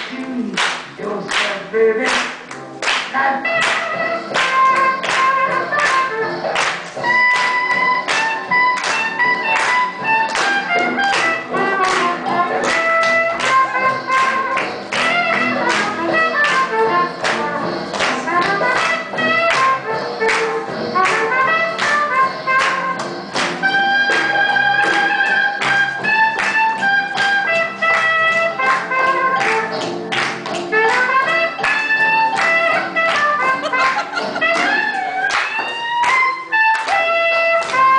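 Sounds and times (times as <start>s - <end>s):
swing jazz music: 0.0s - 37.9s.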